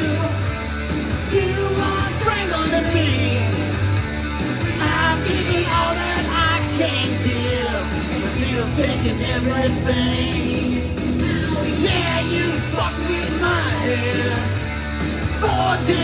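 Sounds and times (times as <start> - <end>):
rock song with singing and guitar: 0.0 - 16.0.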